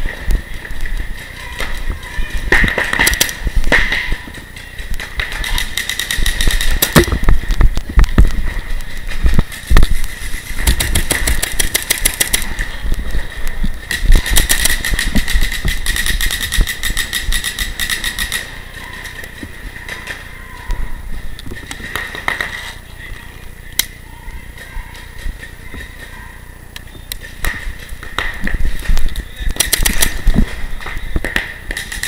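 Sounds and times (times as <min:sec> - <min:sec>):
paintball markers firing: 0:00.2 - 0:13.0, 0:13.8 - 0:21.0, 0:21.6 - 0:22.8, 0:26.8 - 0:32.0.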